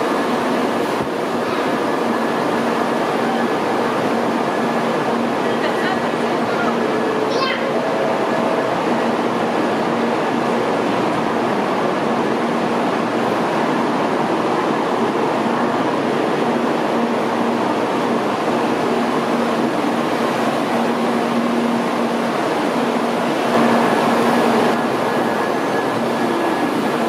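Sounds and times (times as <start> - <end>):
train blowers whirring hum: 0.0 - 27.0.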